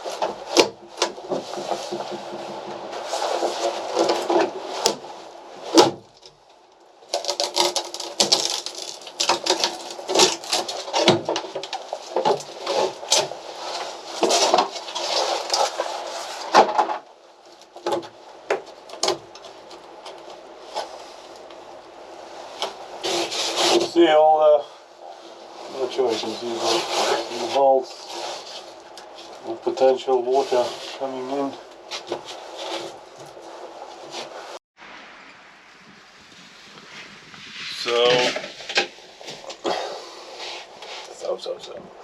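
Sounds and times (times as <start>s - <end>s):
wood scraping and knocking: 0.0s - 6.5s, 7.1s - 21.6s, 25.7s - 34.6s, 37.4s - 41.2s.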